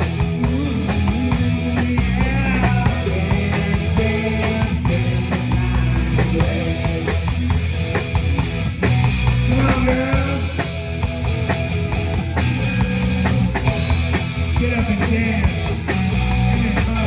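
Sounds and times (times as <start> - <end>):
electric guitar with bent notes: 0.0 - 17.0
rock band playing: 0.0 - 17.0.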